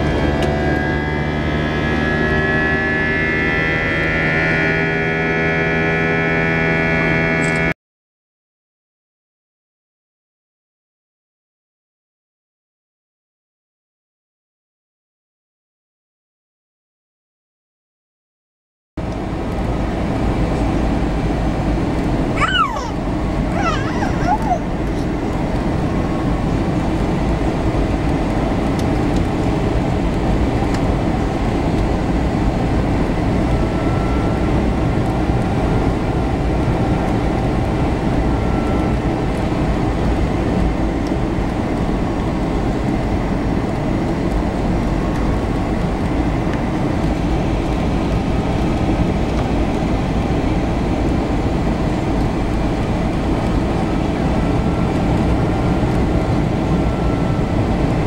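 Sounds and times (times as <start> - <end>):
airliner cabin engine rush: 0.0 - 7.8, 19.0 - 58.0.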